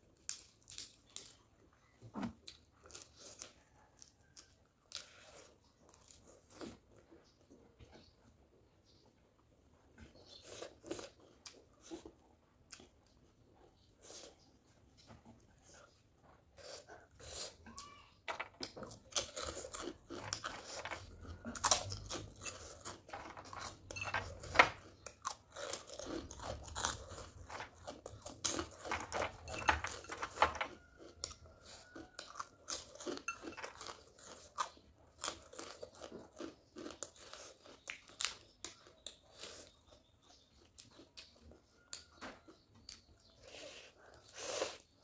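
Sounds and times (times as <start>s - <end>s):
person chewing crunchy food: 0.1s - 1.6s, 2.4s - 7.4s, 10.1s - 14.4s, 18.6s - 45.0s.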